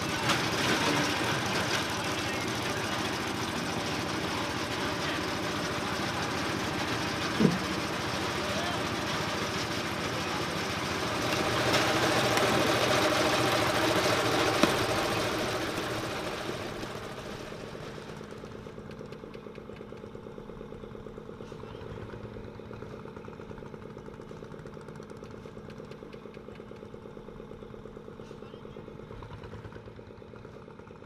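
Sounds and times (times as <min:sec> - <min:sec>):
engine hum: 0:00.0 - 0:31.0.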